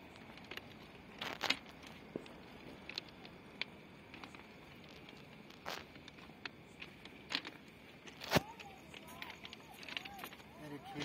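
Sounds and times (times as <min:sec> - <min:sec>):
footsteps crunching on gravel: 0:00.0 - 0:11.0.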